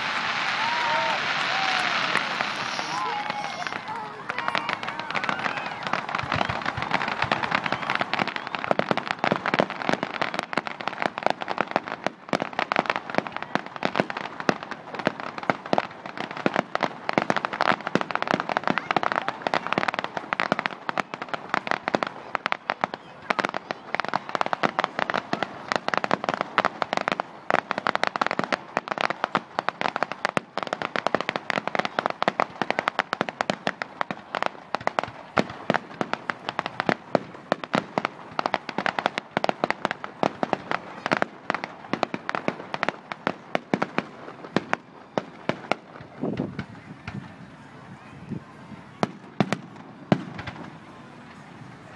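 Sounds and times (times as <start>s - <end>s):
fireworks popping and banging: 0.0s - 51.9s.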